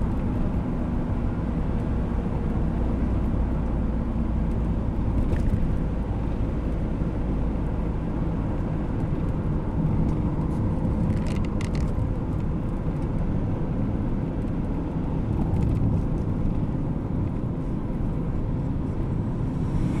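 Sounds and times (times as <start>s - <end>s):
car interior rumble: 0.0s - 20.0s.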